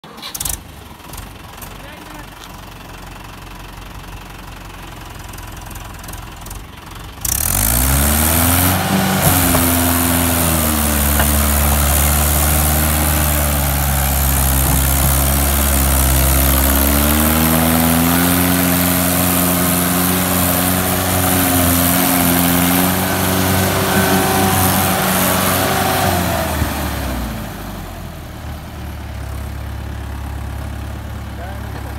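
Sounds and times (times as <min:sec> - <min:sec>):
diesel tractor engine revving: 0:00.0 - 0:31.9.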